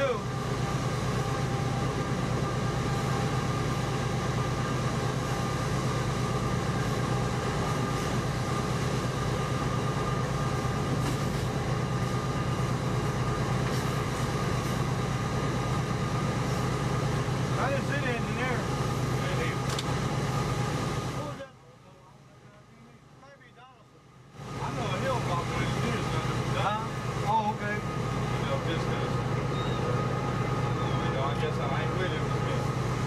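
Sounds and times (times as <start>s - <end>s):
faint steady whine: 0.0s - 33.0s
locomotive engine hum: 0.0s - 33.0s.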